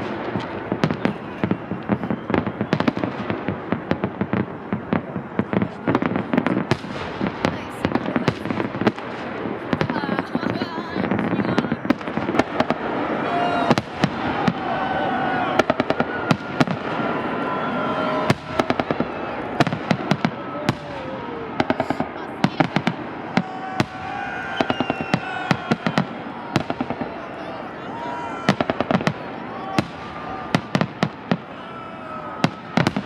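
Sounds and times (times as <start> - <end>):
fireworks cracking and popping: 0.0 - 31.6, 32.3 - 33.0.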